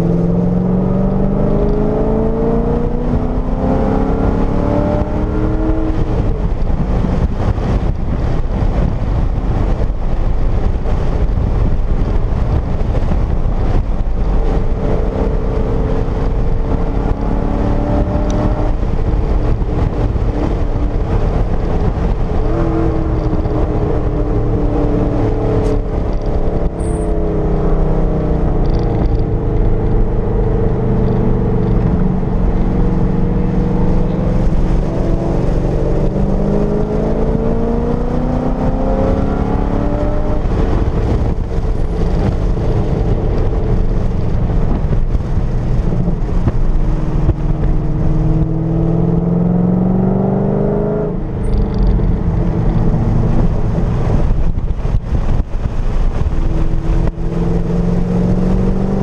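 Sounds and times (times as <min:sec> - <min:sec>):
car engine accelerating: 0:00.0 - 0:59.0
road and wind noise: 0:00.0 - 0:59.0.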